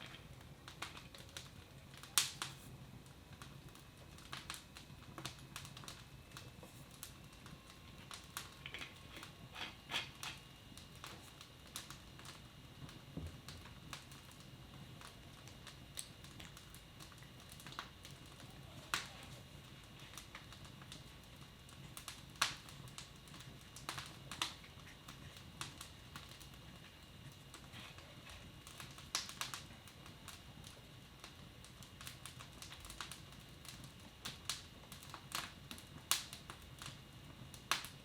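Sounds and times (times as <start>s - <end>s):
faint steady hum: 0.0s - 38.0s
wood fire crackling: 0.0s - 38.0s.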